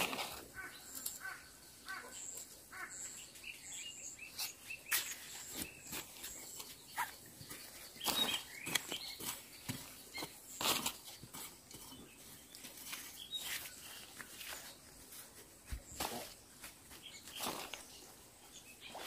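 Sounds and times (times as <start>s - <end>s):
soil scraping with hand hoe: 0.0s - 1.2s, 4.2s - 19.0s
bird chirps: 0.0s - 19.0s.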